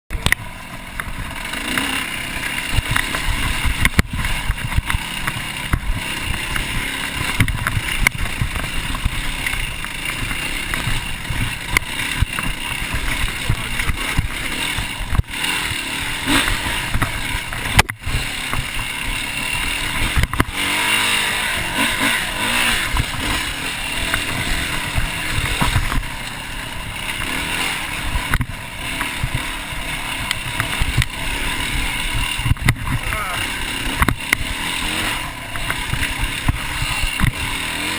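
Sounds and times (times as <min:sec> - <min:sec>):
motorcycle engine running: 0:00.1 - 0:37.9.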